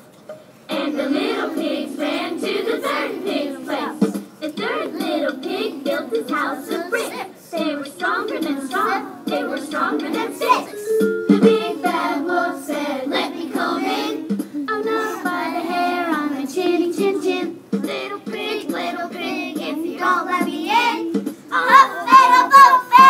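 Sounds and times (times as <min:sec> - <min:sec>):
children singing: 0:00.7 - 0:23.0.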